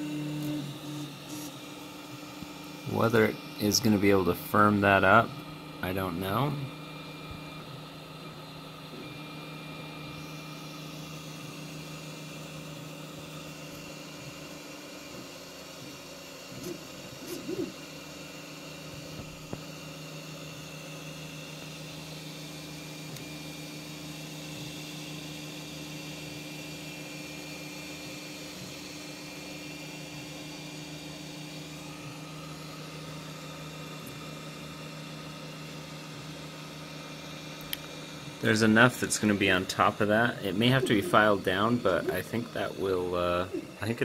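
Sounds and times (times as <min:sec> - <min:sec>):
high motor whine: 0:00.0 - 0:44.0
printer fan and motor hum: 0:00.0 - 0:44.0.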